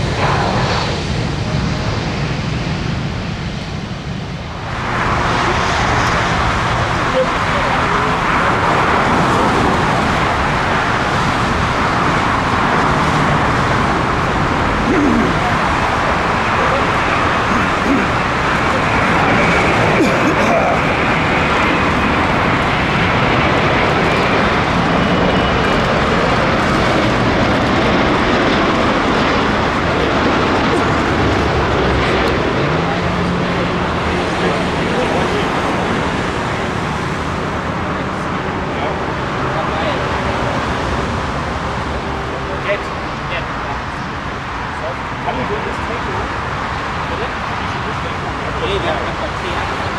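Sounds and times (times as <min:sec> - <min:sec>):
jet engines rushing: 0:00.0 - 0:49.9.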